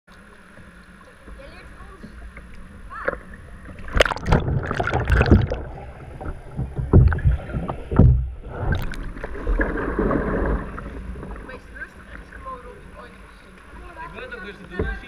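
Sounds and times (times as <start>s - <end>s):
muffled underwater sloshing: 0.1s - 15.0s
water splashing: 0.1s - 15.0s.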